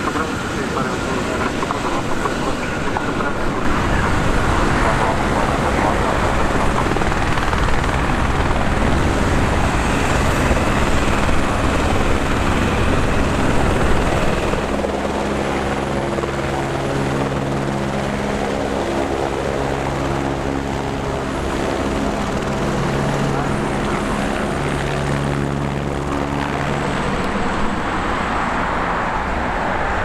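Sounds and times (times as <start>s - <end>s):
aircraft rushing noise: 0.0s - 30.0s
helicopter hovering: 0.0s - 30.0s.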